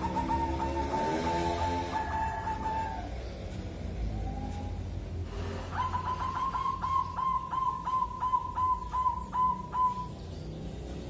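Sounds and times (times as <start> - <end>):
dove cooing: 0.0 - 4.8, 5.5 - 10.2.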